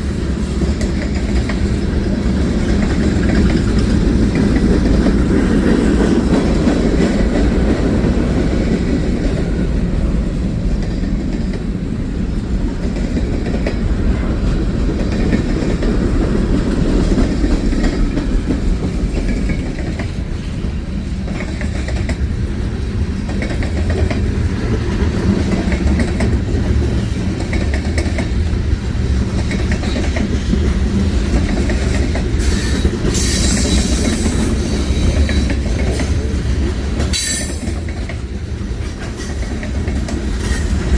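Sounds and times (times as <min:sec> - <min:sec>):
freight train rumbling past: 0:00.0 - 0:40.9
wheels clicking over rail joints: 0:00.4 - 0:09.8, 0:10.6 - 0:22.4, 0:23.0 - 0:40.9.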